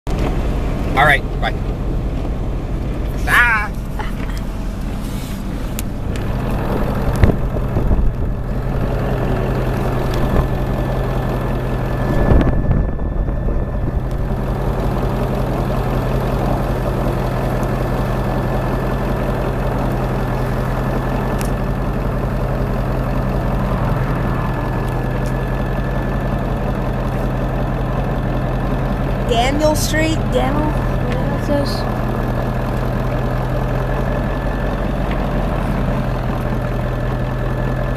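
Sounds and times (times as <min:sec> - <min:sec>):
pickup engine running: 0:00.1 - 0:37.9.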